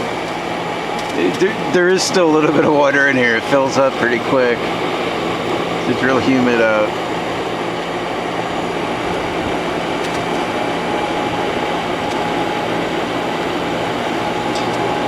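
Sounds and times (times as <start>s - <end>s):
air conditioner fan rushing: 0.0s - 15.0s
low compressor hum: 0.0s - 15.0s.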